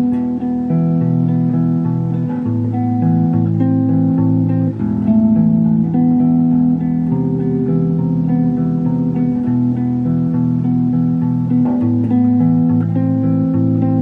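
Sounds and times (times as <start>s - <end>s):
electric bass melody: 0.0s - 14.0s.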